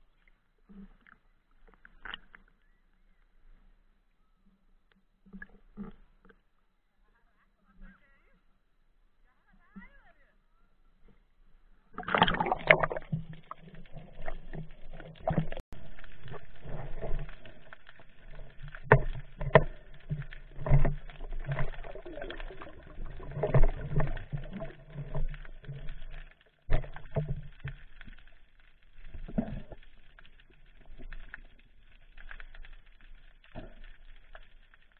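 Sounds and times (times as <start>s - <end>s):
water sloshing and bubbling: 0.0s - 7.0s, 11.0s - 34.9s.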